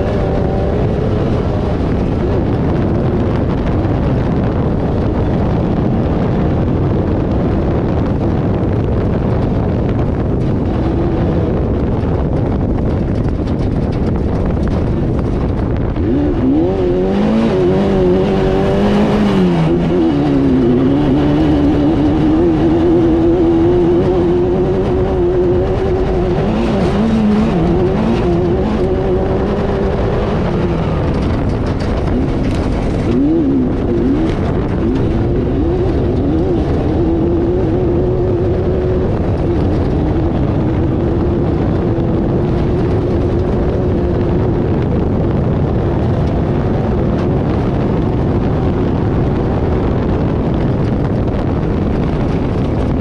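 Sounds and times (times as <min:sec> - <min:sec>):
race car engine revving: 0:00.0 - 0:53.0
rumble of driving noise: 0:00.0 - 0:53.0.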